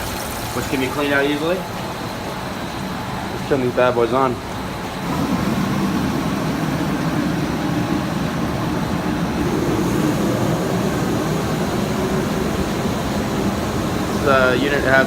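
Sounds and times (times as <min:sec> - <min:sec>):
gas burners roaring: 0:00.0 - 0:15.0.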